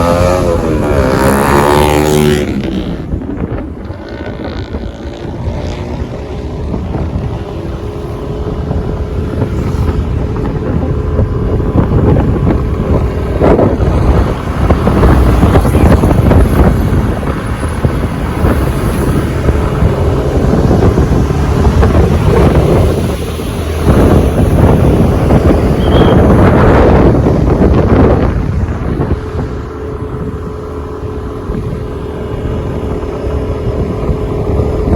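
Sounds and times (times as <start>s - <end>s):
vehicle driving on road: 0.0s - 34.9s
wind buffeting microphone: 0.0s - 34.9s.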